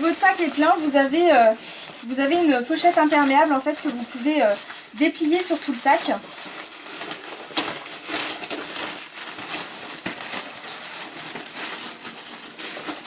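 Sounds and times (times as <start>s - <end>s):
nylon rain cover crinkling: 0.0s - 13.0s.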